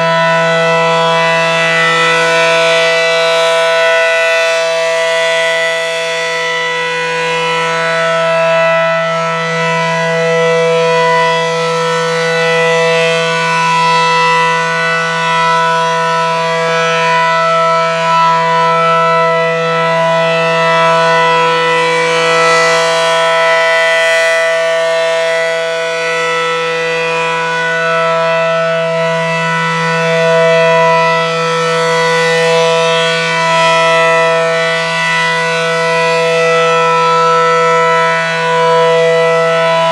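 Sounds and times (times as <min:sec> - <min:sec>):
low-pitched warning siren: 0:00.0 - 0:39.9.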